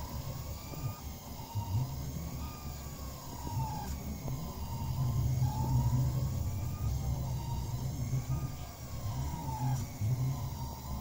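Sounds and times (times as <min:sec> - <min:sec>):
steady low hum: 0:00.0 - 0:11.0
stepper motors whining: 0:00.0 - 0:11.0.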